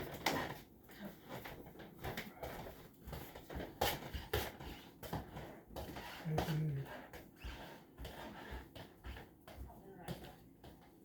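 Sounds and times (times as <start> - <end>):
room noise: 0.0 - 11.0.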